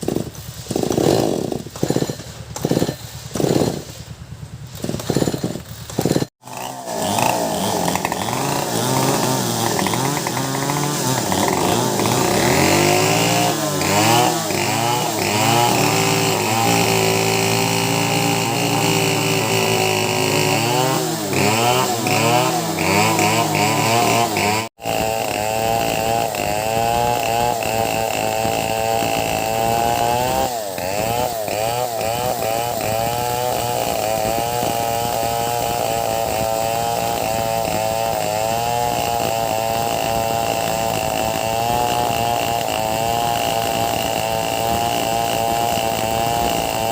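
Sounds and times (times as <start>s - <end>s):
chainsaws cutting wood: 0.0s - 46.9s.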